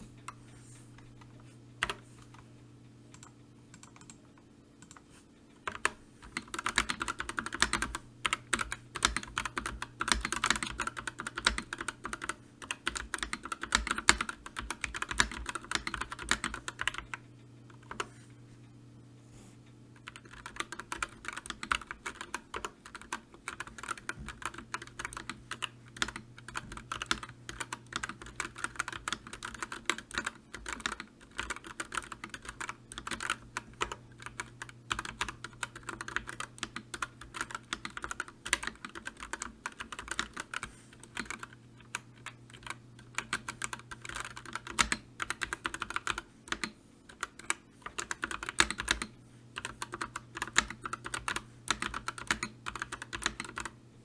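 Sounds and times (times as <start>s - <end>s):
faint low hum: 0.0s - 54.0s
keyboard typing: 1.1s - 2.4s, 3.1s - 5.0s, 5.7s - 18.1s, 20.0s - 53.8s.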